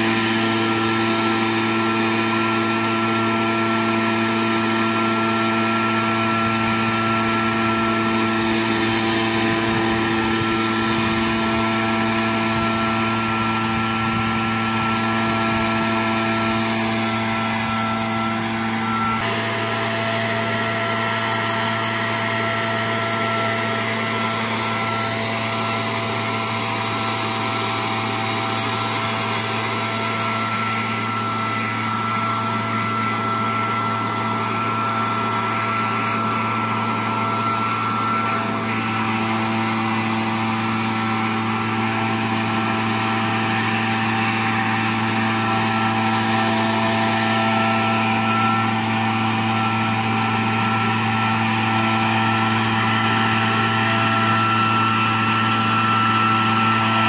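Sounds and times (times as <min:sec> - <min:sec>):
high-pitched whine: 0:00.0 - 0:57.0
mist blower engine running: 0:00.0 - 0:57.0.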